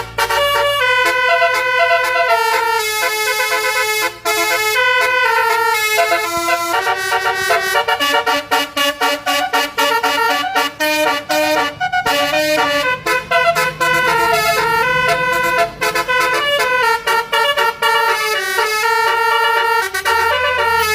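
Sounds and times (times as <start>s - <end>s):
musical vehicle horn melody: 0.0s - 20.9s.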